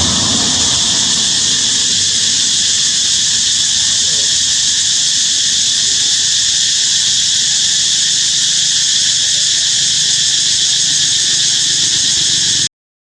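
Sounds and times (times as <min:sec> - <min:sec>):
insects droning: 0:00.0 - 0:12.7.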